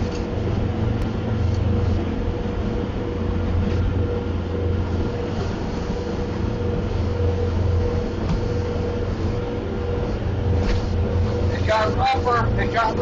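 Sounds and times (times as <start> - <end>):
boat engine droning: 0.0 - 13.0
hull and water noise: 0.0 - 13.0.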